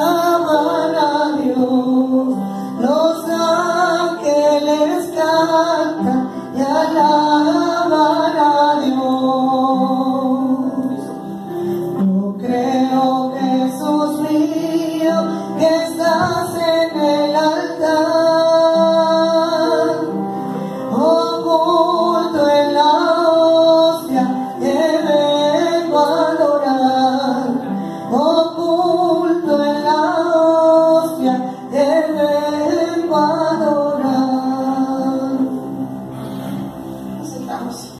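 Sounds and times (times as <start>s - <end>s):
person singing: 0.0s - 11.2s, 11.9s - 36.3s.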